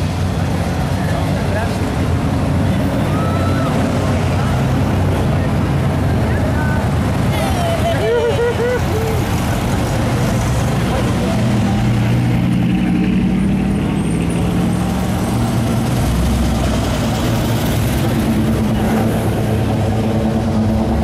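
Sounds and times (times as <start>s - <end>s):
car engines running at low speed: 0.0s - 21.0s.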